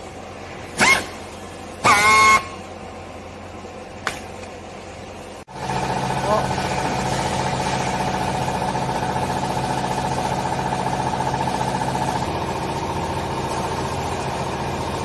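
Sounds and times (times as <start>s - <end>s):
hydraulic baler motor humming: 0.0s - 4.9s, 5.5s - 15.0s.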